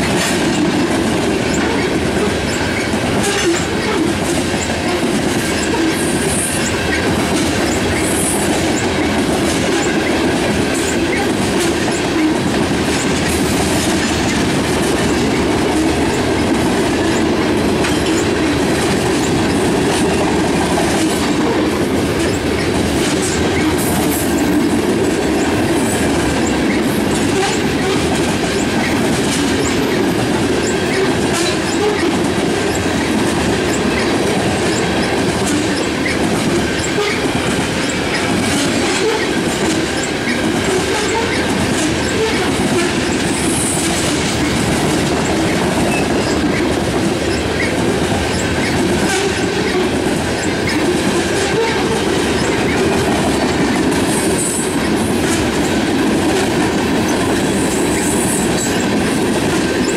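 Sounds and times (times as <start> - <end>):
clickety-clack over rail joints: 0.0 - 59.9
train wheels rumbling on rail: 0.0 - 59.9.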